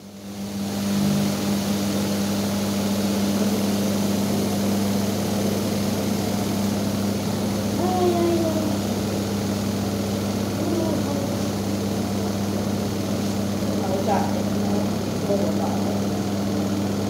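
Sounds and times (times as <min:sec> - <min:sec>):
washing machine motor humming: 0:00.0 - 0:17.0.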